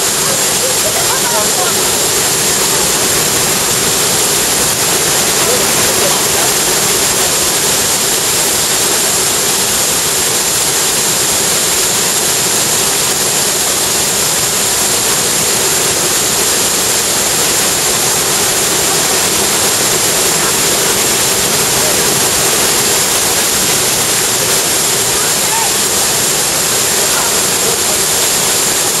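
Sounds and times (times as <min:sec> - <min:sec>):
rush of fast-running water: 0:00.0 - 0:29.0.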